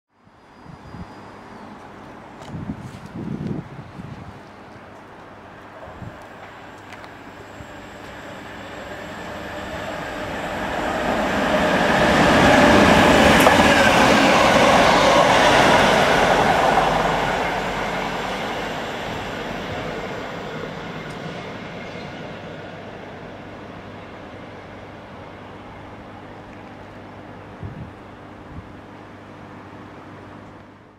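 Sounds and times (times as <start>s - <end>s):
diesel train passing at speed: 0.2s - 30.9s.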